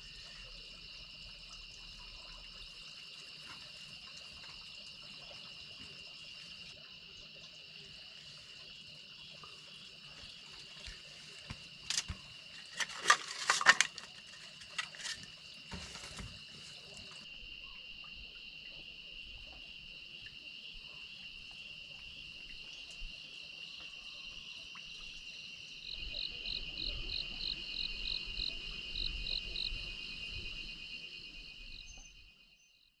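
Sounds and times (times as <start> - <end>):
insects trilling: 0.0 - 32.8.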